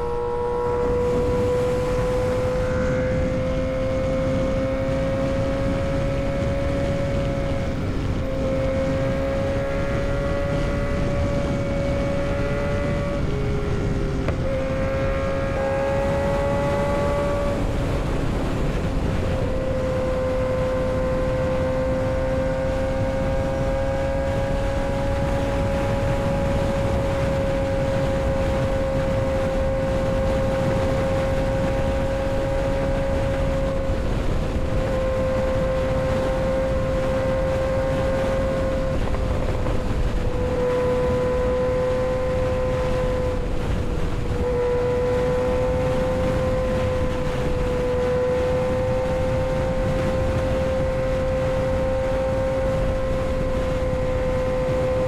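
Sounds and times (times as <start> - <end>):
motorcycle engine at high revs: 0.0 - 55.0
wind rushing: 0.0 - 55.0.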